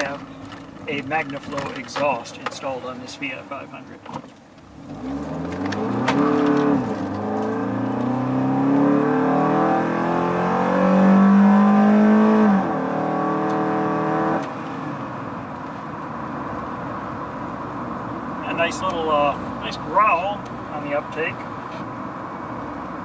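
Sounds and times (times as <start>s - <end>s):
car engine accelerating with growl: 4.1s - 23.0s.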